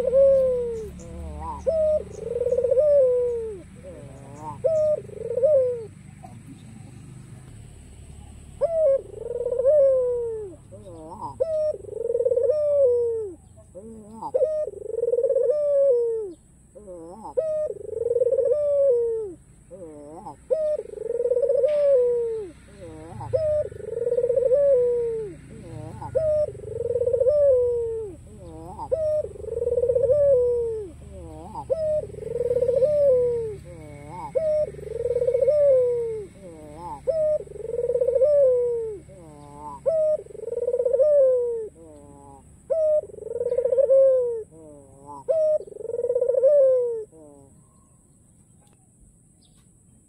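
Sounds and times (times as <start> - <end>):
dove cooing: 0.0 - 48.0.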